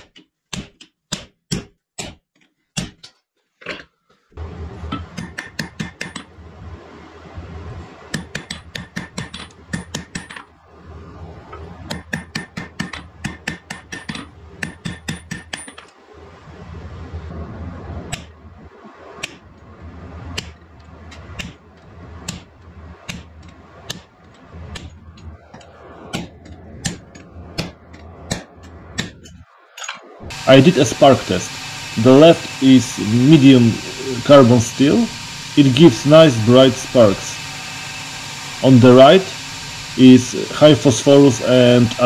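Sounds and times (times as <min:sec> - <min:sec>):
steady low hum: 0:04.4 - 0:42.0.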